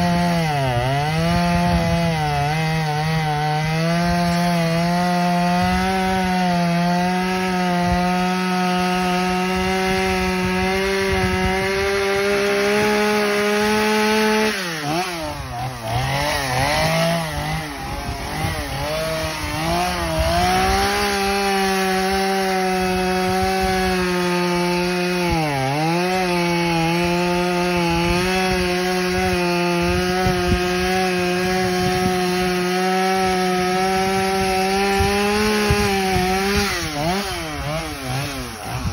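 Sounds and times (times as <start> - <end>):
chainsaw cutting branches: 0.0 - 38.9.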